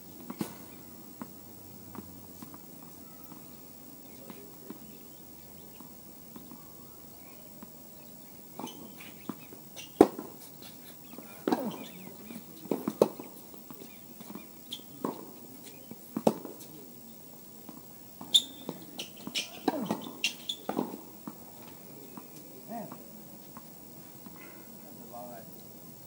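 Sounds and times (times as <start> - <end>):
tennis balls bouncing on court: 0.2 - 24.4
tennis balls struck by rackets: 0.2 - 24.4.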